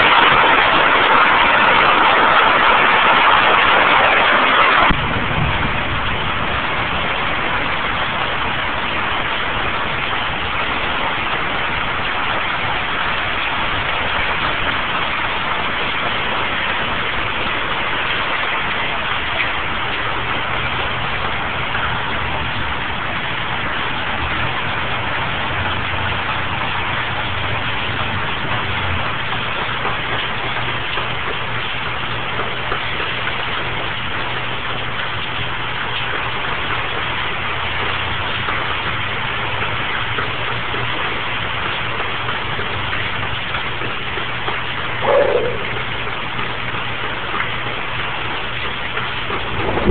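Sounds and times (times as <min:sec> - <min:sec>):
rain hissing: 0:00.0 - 0:49.9.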